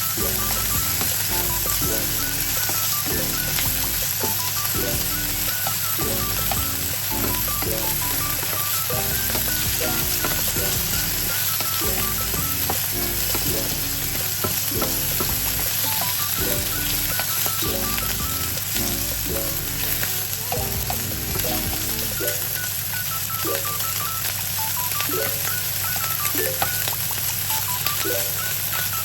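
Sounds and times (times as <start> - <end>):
food sizzling in a pan: 0.0 - 29.0
light background music: 0.0 - 29.0.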